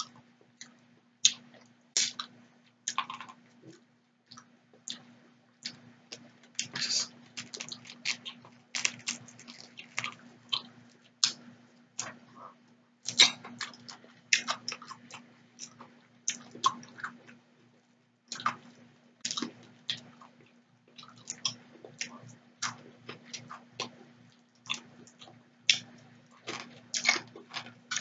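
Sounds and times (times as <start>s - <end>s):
biting and wet chewing: 0.6s - 17.4s, 18.3s - 28.0s.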